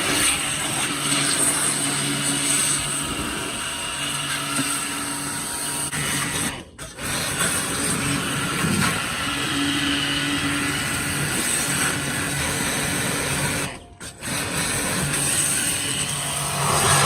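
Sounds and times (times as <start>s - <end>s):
power tool motor whirring: 0.0s - 17.0s.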